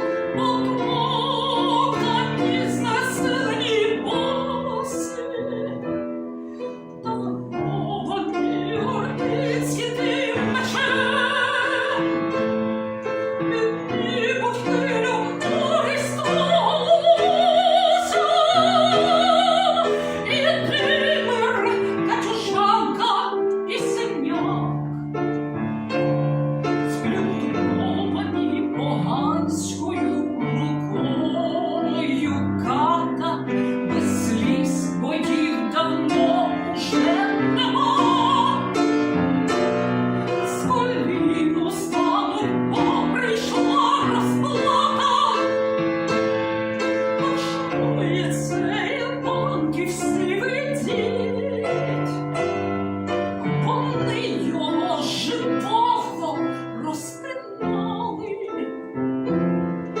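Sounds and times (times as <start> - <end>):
operatic singing with vibrato: 0.0 - 25.0, 26.3 - 58.9
piano accompaniment: 0.0 - 60.0.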